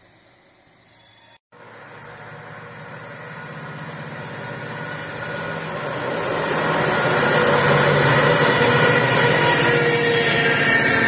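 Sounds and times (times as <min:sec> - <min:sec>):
diesel locomotive engine hum: 0:00.0 - 0:11.0.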